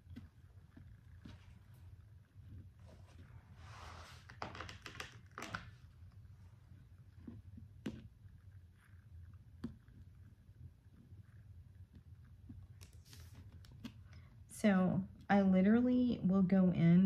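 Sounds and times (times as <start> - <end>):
steady low hum: 0.0 - 4.4, 5.2 - 17.0.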